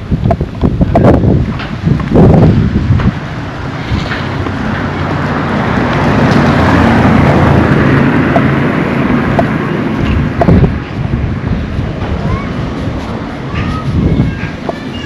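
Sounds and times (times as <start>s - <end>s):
vehicle passing by: 2.2s - 15.0s.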